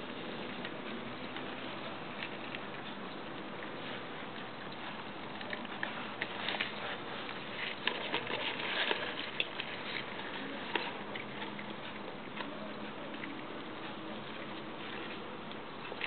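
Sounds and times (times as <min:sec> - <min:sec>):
rustling of fern fronds: 0:00.0 - 0:16.0.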